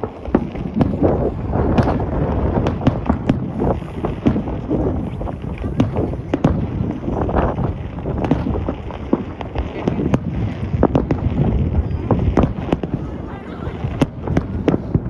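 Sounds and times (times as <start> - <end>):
fireworks bursting: 0.0 - 15.0
wind on microphone: 0.0 - 15.0.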